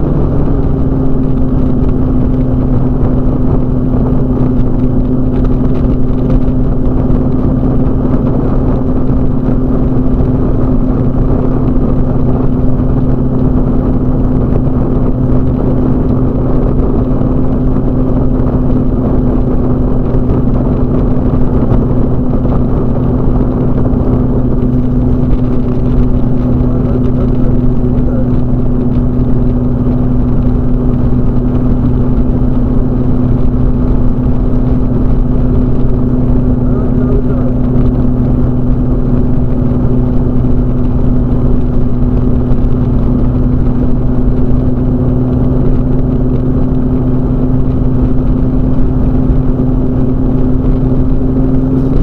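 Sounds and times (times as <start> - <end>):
aircraft engine and propeller droning: 0.0 - 52.0.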